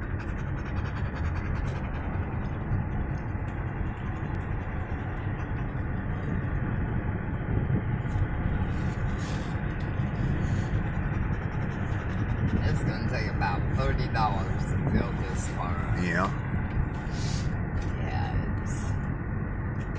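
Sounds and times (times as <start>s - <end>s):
car road and engine noise: 0.0s - 19.9s.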